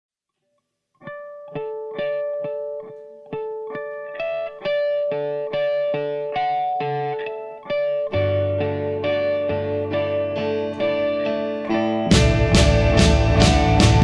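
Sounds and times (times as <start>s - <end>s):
electric guitar picking notes: 1.0s - 14.0s.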